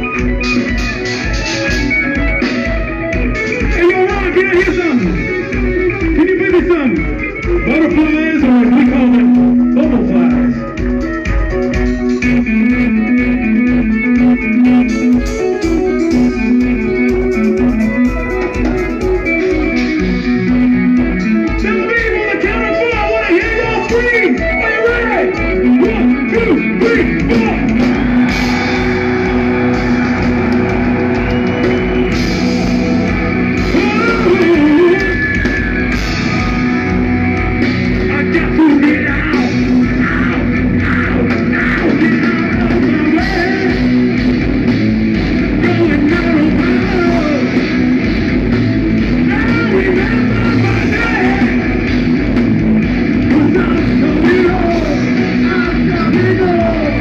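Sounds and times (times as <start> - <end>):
bass guitar: 0.0 - 57.0
distorted guitar: 0.0 - 57.0
drums: 0.0 - 57.0
keyboards: 0.0 - 57.0.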